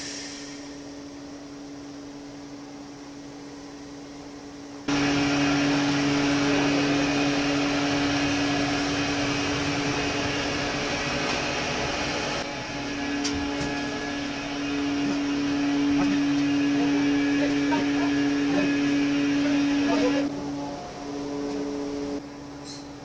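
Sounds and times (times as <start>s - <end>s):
factory machinery humming: 0.0s - 23.0s.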